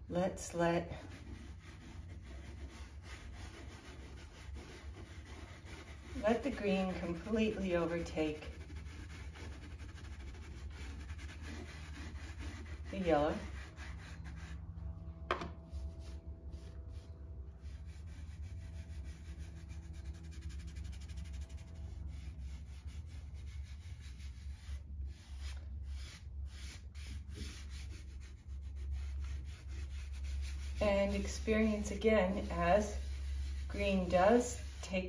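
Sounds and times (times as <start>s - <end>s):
steady low hum: 0.0s - 35.0s
fingers rubbing pastel on paper: 0.9s - 14.6s, 15.7s - 35.0s.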